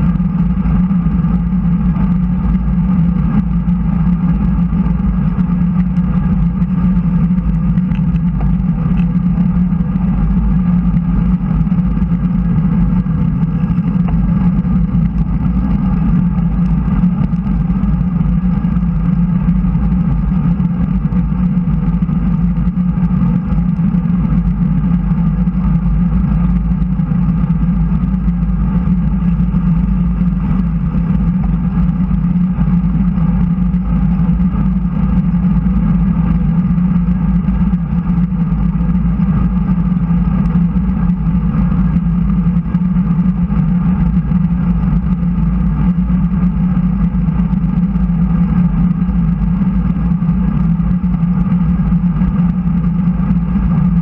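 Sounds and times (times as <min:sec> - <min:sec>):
bike tyre rumble: 0:00.0 - 0:54.0
low hum: 0:00.0 - 0:54.0.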